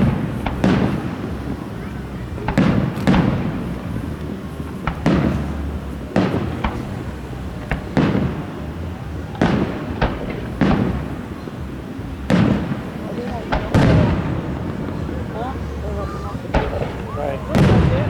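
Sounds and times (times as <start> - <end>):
firework shells bursting: 0.0 - 18.0.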